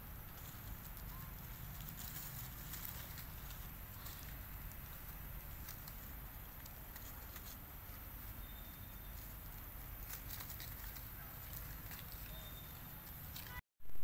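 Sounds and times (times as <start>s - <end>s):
dry leaves crackling and rustling: 0.0s - 13.6s.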